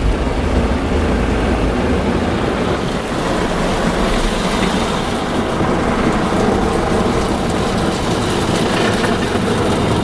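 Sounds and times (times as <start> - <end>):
car wash water rushing: 0.0 - 10.0.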